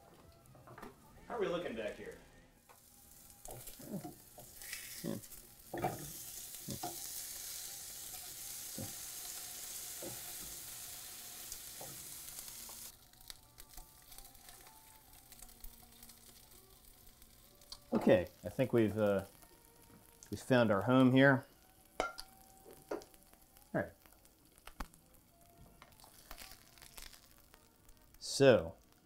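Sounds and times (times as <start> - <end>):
burger patties sizzling: 1.0 - 29.0.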